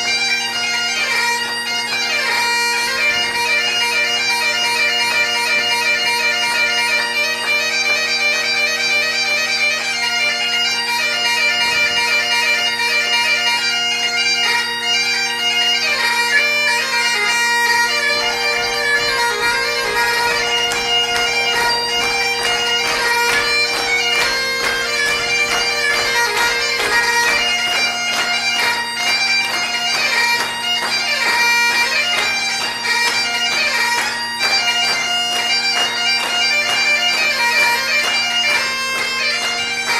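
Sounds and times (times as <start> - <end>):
bagpipe playing a quick tune: 0.0 - 39.9.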